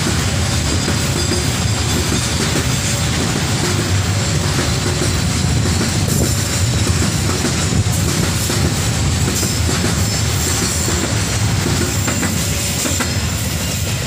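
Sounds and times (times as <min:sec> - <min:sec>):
clacks over rail joints: 0:00.0 - 0:13.9
train wheels rumbling on rail: 0:00.0 - 0:14.0.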